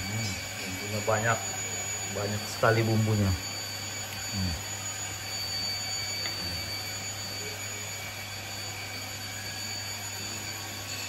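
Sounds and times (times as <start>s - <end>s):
faint high whine: 0.0s - 11.0s
machine running hum: 0.0s - 11.0s.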